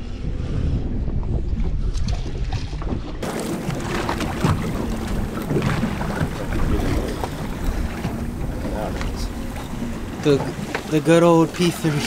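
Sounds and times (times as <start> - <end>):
boat and water noise: 0.0 - 12.0
wind buffeting microphone: 0.0 - 12.0.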